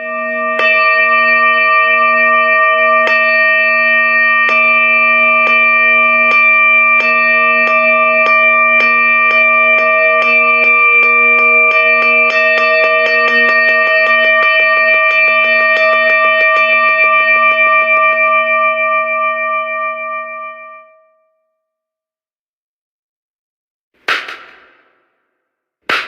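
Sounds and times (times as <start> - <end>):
temple bell ringing: 0.0 - 21.4.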